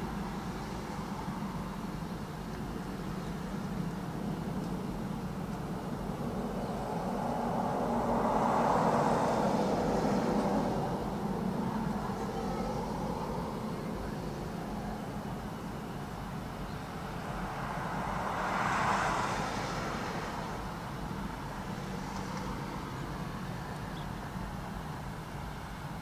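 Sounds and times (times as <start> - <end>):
road traffic hum: 0.0 - 26.0
car passing by: 3.5 - 26.0.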